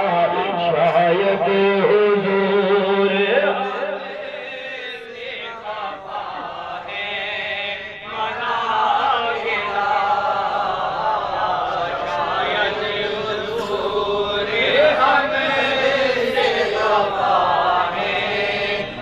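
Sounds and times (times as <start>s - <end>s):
men chanting devotional poem: 0.0s - 19.0s.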